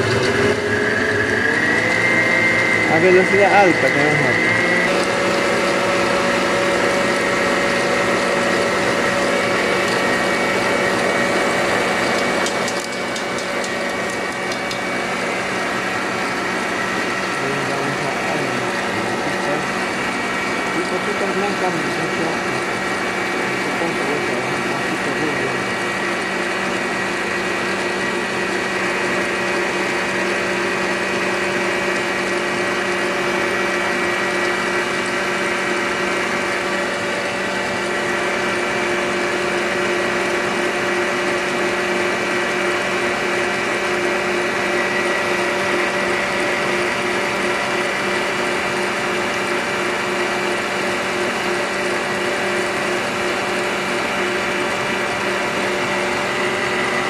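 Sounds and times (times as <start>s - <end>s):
stand mixer motor whining: 0.0s - 57.0s.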